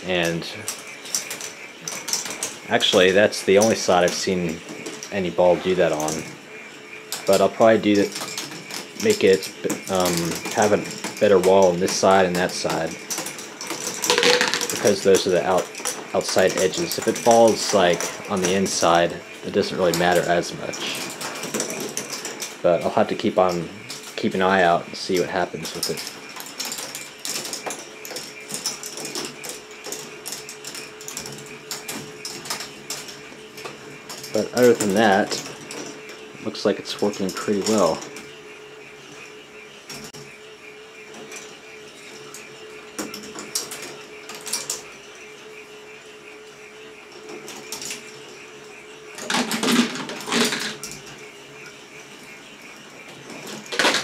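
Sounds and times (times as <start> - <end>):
balls clicking through plastic tracks: 0.0 - 54.0
steady hum: 0.0 - 54.0.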